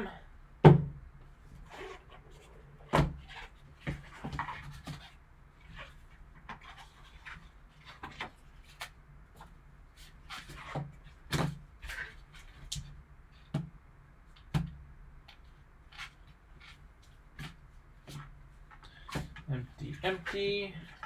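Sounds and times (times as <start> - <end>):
cardboard and wrapping rustling: 1.4 - 13.5, 15.3 - 21.0.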